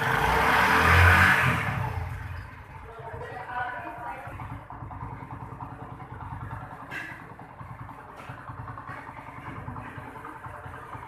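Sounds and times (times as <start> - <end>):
small engine idling: 1.6 - 11.0.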